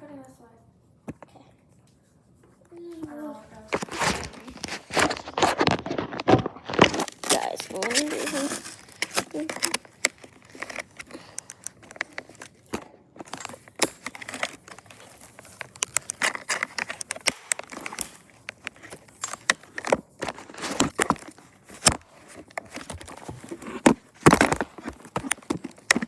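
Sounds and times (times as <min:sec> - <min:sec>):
plastic packaging crinkling: 0:03.5 - 0:26.0
sharp clicks and small knocks: 0:03.8 - 0:26.0.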